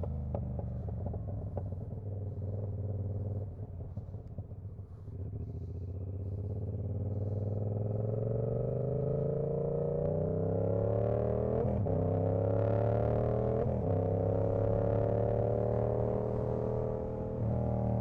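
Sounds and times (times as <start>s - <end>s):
motorcycle engine through exhaust: 0.0s - 18.0s.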